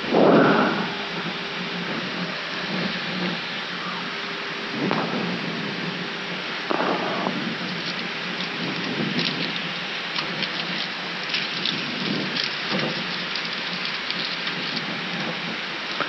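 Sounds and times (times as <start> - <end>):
steady rushing cockpit noise: 0.0 - 16.0.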